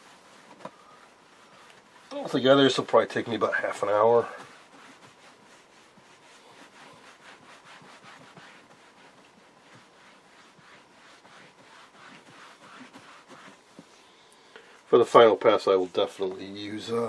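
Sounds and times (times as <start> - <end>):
cloth rubbing on plastic: 0.0 - 14.1, 14.9 - 17.0.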